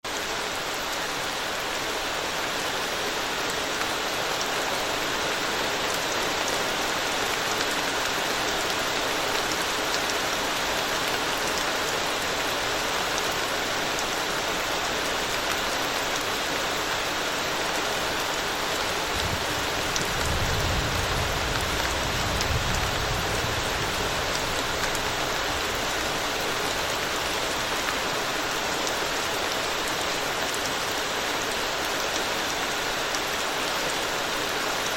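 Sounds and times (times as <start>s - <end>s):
rain falling on a road: 0.1s - 34.9s.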